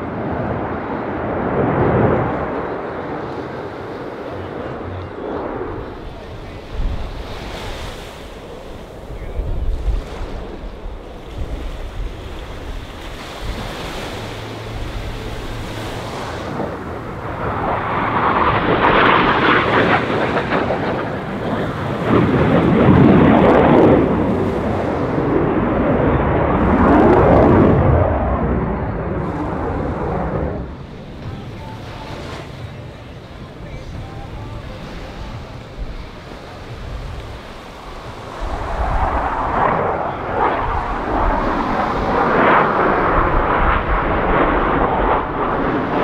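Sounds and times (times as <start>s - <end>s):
jet plane passing low: 0.0s - 46.0s
wind buffeting microphone: 0.0s - 46.0s.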